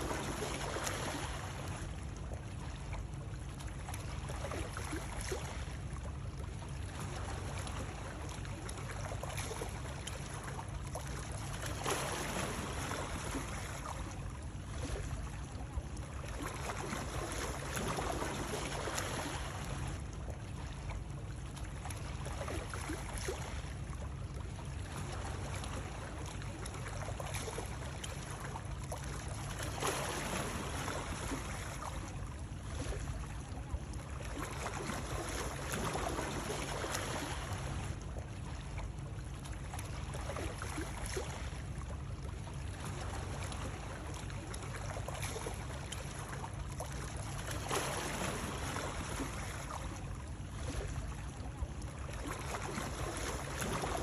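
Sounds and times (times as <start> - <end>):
gently moving water: 0.0 - 54.0.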